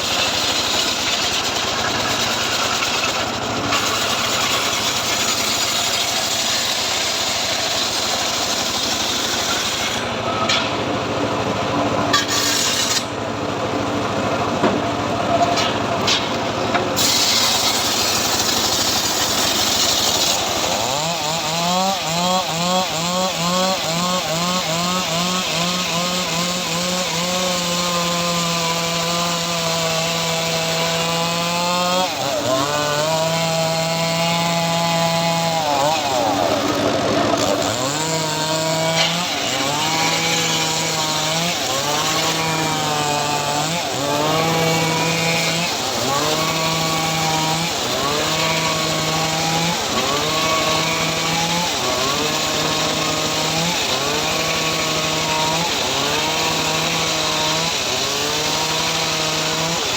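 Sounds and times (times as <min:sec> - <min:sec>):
saw blade cutting wood: 0:00.0 - 0:11.0, 0:12.0 - 0:13.2, 0:14.6 - 0:59.9
sawmill engine under load: 0:00.0 - 0:59.9.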